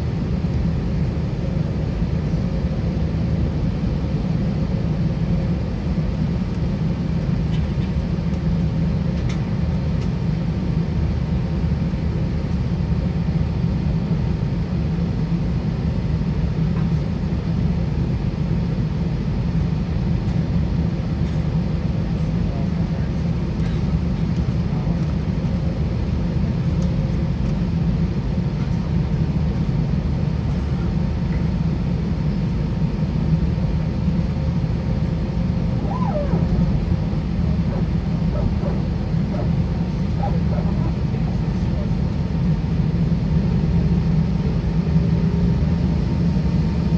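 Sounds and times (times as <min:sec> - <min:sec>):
aircraft cabin low rumble: 0:00.0 - 0:46.9.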